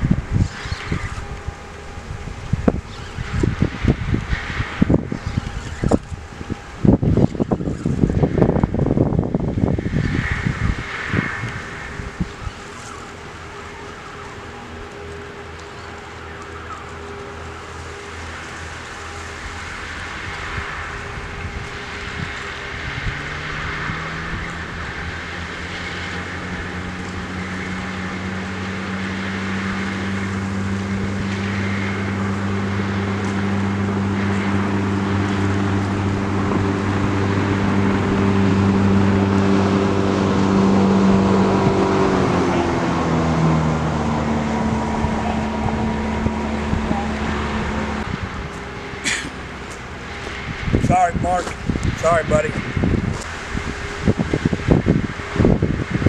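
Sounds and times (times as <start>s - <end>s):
motor engine passing: 0.0s - 56.0s.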